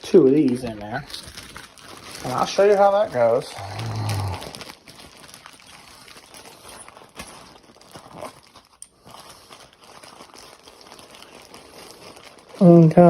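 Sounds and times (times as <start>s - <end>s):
light crinkling: 0.0s - 13.0s.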